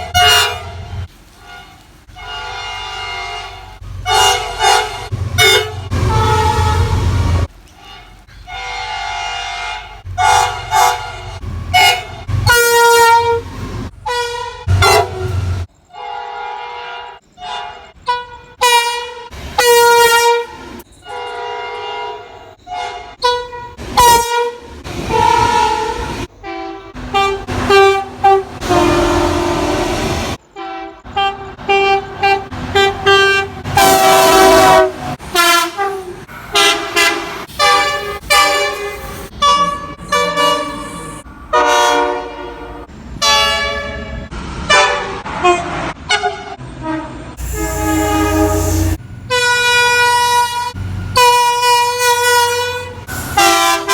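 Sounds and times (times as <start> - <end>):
train air horn blasts: 0.0 - 53.9.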